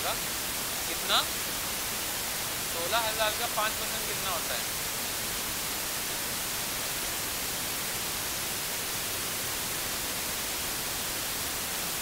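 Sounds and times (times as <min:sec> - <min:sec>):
microphone recording hiss: 0:00.0 - 0:12.0.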